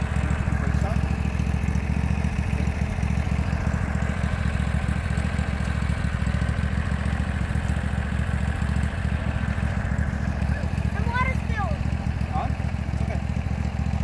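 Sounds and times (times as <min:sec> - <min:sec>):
lawn tractor engine idling: 0:00.0 - 0:14.0.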